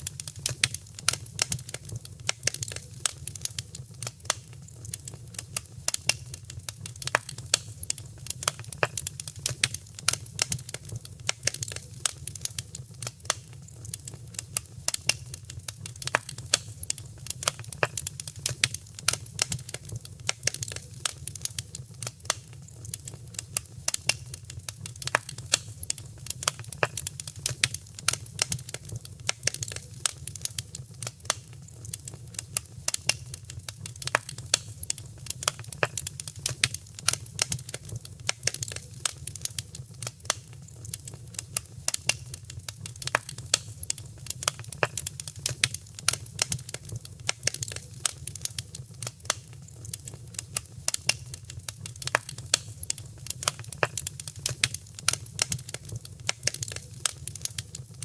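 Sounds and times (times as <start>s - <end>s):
fire crackling and popping: 0.0s - 58.0s
low fire rumble: 0.0s - 58.0s.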